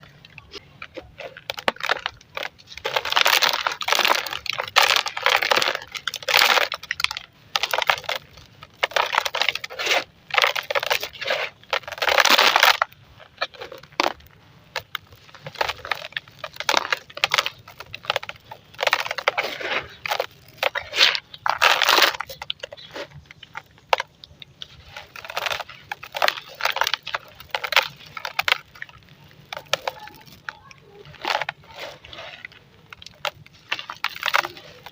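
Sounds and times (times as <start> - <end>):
sand being crushed: 0.0 - 34.9.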